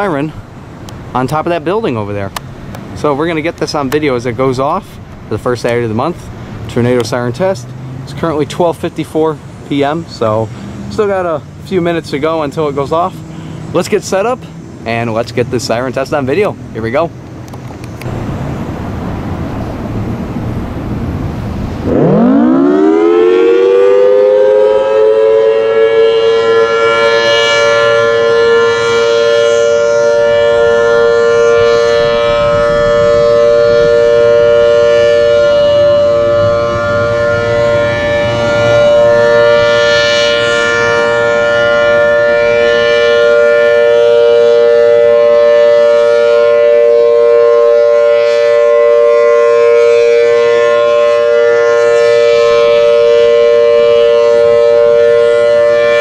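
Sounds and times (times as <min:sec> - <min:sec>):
tornado siren two-tone chord: 0:00.0 - 0:02.0, 0:05.6 - 0:17.2, 0:18.0 - 0:56.0.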